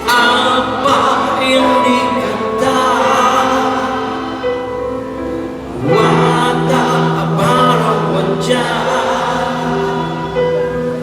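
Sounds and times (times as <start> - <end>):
person singing sustained notes: 0.0 - 11.0.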